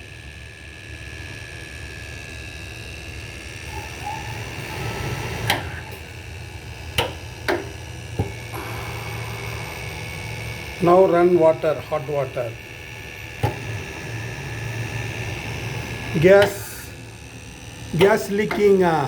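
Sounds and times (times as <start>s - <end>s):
faint high whine: 0.0s - 19.0s
low electrical hum: 0.0s - 19.0s.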